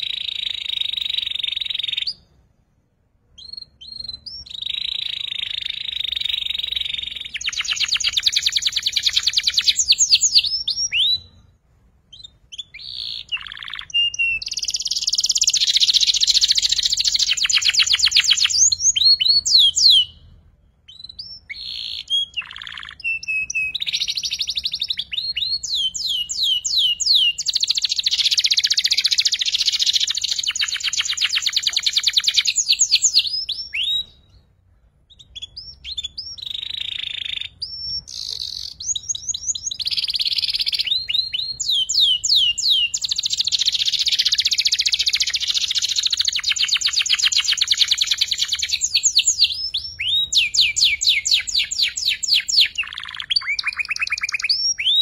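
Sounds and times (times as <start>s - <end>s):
canary singing trills: 0.0s - 2.4s, 3.3s - 11.5s, 12.1s - 55.0s.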